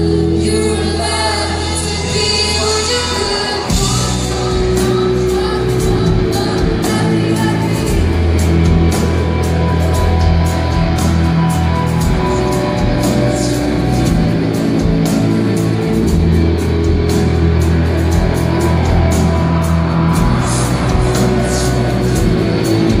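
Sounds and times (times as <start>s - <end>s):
bass notes: 0.0s - 23.0s
distorted electric guitars: 0.0s - 23.0s
drums and cymbals: 0.0s - 23.0s.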